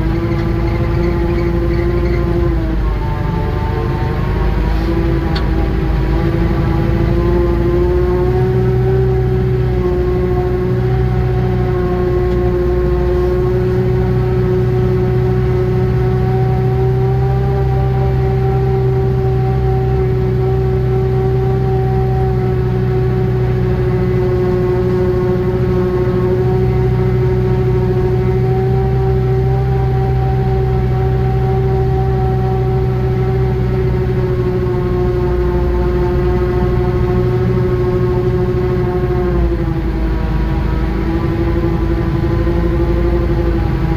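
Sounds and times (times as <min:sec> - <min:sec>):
small engine whining drone: 0:00.0 - 0:43.9.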